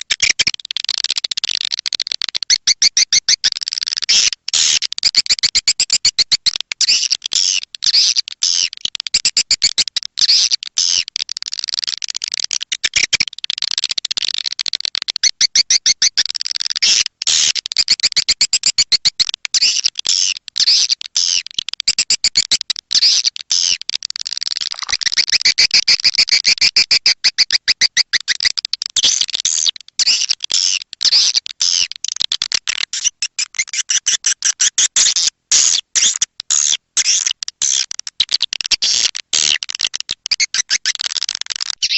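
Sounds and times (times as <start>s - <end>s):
swiftlets chirping and clicking: 0.1s - 41.9s.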